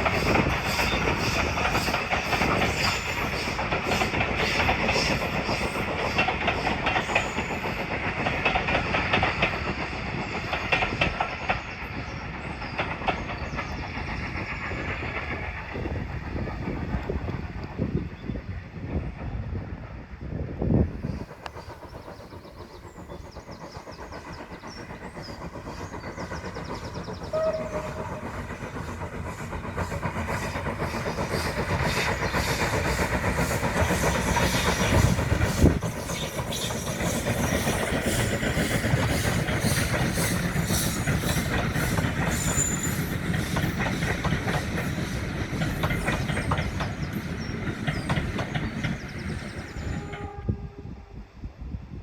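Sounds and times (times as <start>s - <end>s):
wheels clattering on rails: 0.0s - 17.9s, 21.0s - 50.3s
train passing: 0.0s - 52.0s.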